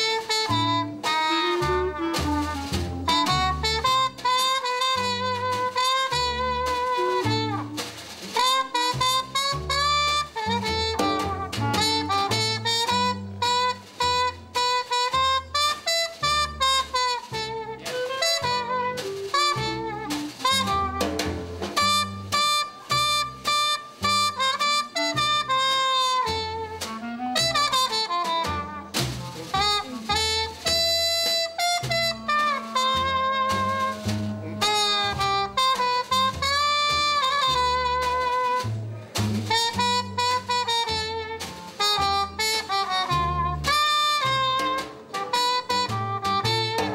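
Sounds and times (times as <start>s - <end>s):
plucked upright double bass: 0.0s - 46.9s
snare drum keeping time: 0.0s - 46.9s
trumpet melody: 0.0s - 46.9s.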